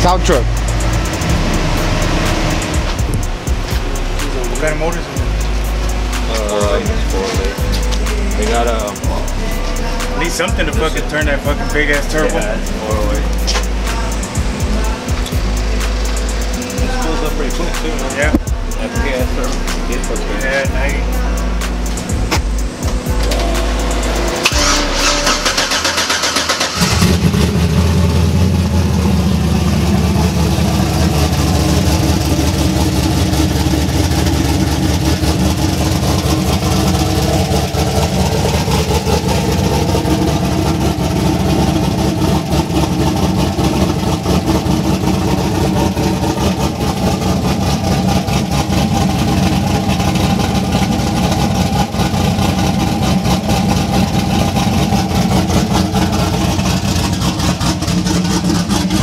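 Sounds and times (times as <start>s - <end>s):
turbocharged engine idling: 0.0s - 59.0s.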